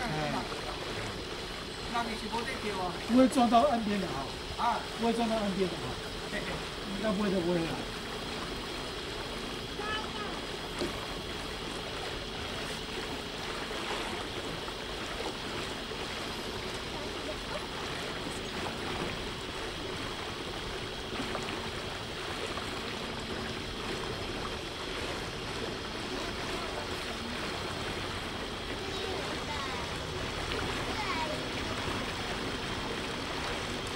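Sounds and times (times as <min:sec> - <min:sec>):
faint motor hum: 0:00.0 - 0:33.9
water washing along boat hull: 0:00.0 - 0:33.9.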